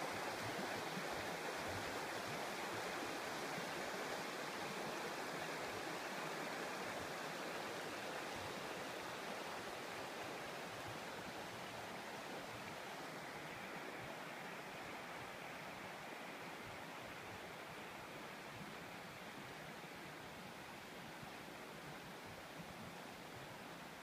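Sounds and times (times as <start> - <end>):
river water rushing over pebbles: 0.0 - 24.0.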